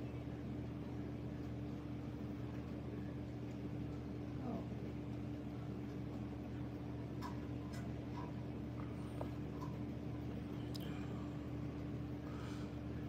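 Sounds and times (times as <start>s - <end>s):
faint constant tone: 0.0s - 13.0s
low room hum: 0.0s - 13.0s.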